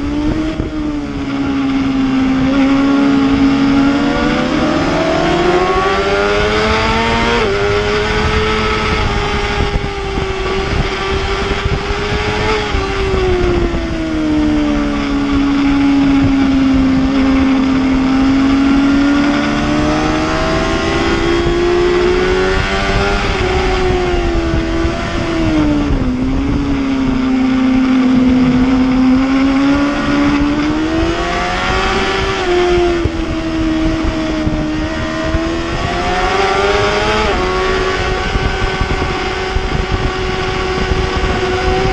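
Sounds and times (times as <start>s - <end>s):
motorcycle engine at high revs: 0.0s - 41.9s
steady rushing noise: 0.0s - 41.9s.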